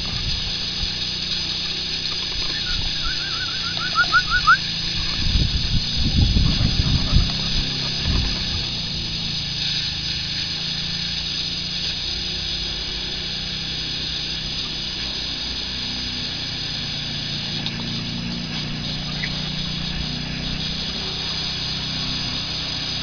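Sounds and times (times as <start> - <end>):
mechanical drone with high whine: 0.0 - 23.0.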